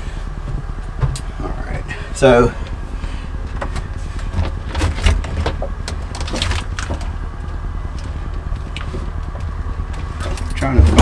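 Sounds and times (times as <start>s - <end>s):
steady low rumble: 0.0s - 11.0s
wires and conduit rustling: 0.0s - 11.0s.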